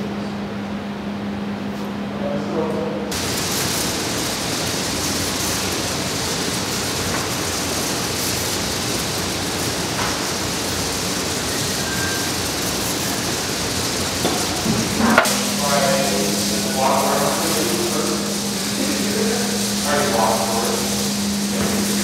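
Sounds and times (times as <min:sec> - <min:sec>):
electronic static hiss: 0:03.1 - 0:22.0.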